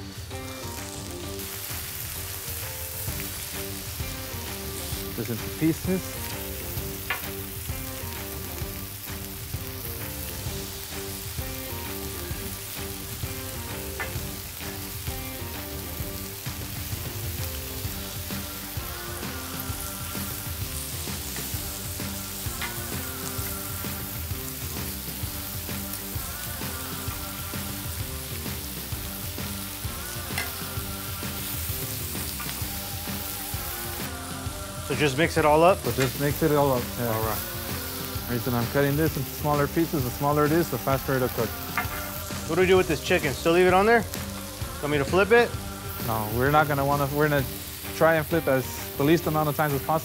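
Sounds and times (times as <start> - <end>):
background music: 0.0 - 50.0
rice sizzling on a griddle: 0.0 - 50.0.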